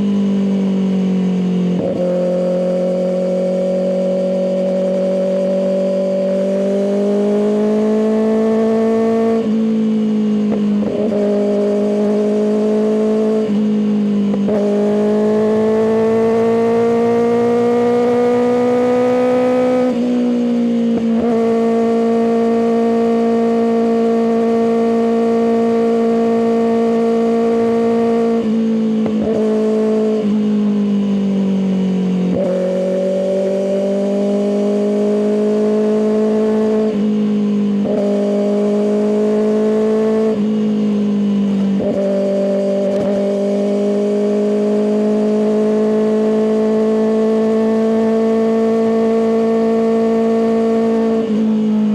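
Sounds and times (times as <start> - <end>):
motorcycle engine revving through gears: 0.0 - 51.9.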